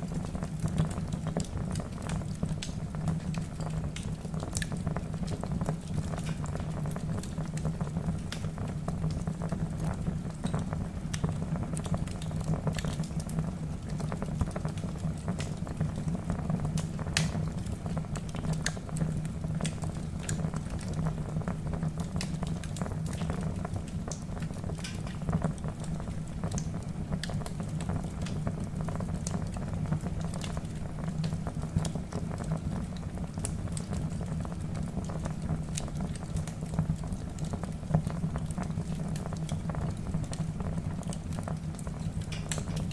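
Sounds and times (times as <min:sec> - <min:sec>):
crackles and pops of burning logs: 0:00.0 - 0:42.9
wood fire burning: 0:00.0 - 0:42.9.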